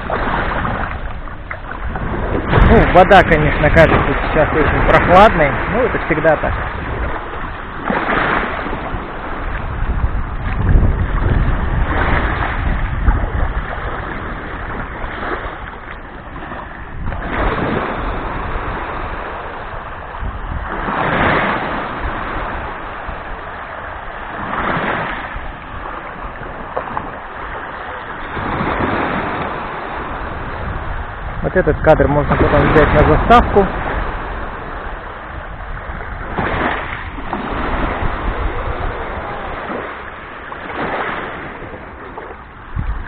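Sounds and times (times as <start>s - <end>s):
waves washing on sandy shore: 0.0s - 43.0s
wind rumble on microphone: 0.0s - 43.0s.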